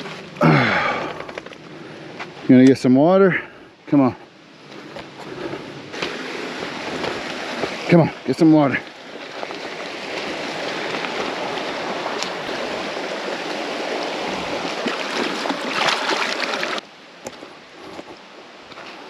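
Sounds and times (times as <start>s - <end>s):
creek water rushing over rocks: 0.0s - 3.2s, 3.9s - 19.0s.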